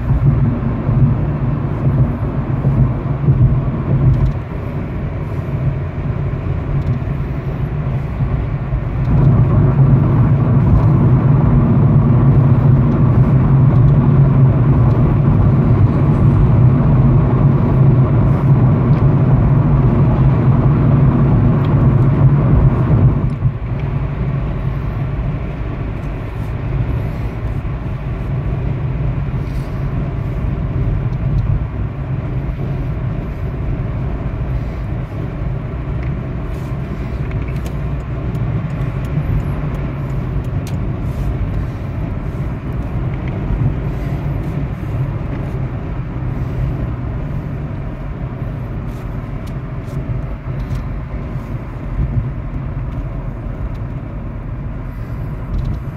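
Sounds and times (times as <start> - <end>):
car cabin road and engine rumble: 0.0 - 55.9.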